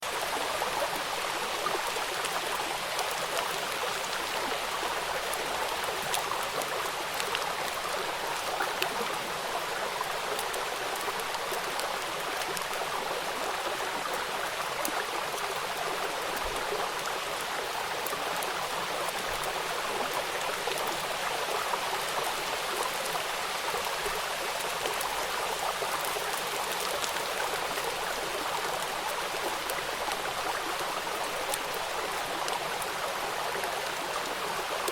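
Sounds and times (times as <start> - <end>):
rain falling on a river: 0.0 - 34.9.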